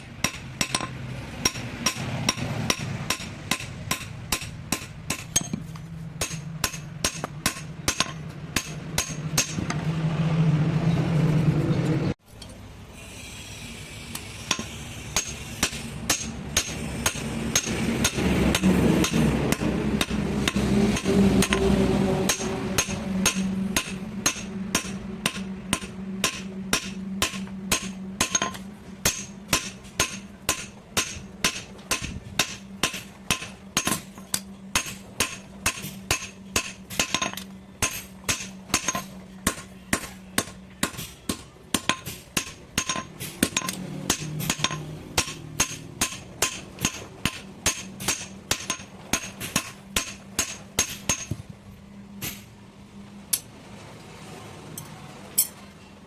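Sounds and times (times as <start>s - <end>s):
hammer striking metal: 0.0s - 9.8s, 14.2s - 51.4s.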